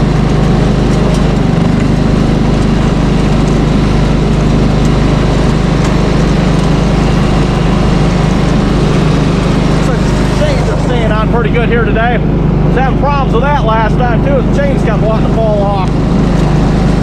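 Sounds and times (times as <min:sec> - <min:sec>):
vehicle engine running steadily: 0:00.0 - 0:17.0.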